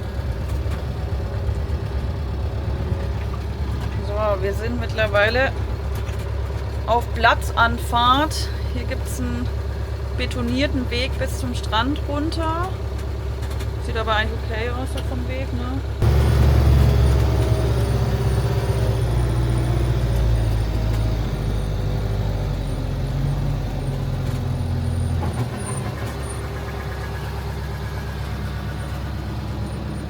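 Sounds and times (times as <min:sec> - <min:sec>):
van engine humming: 0:00.0 - 0:30.0.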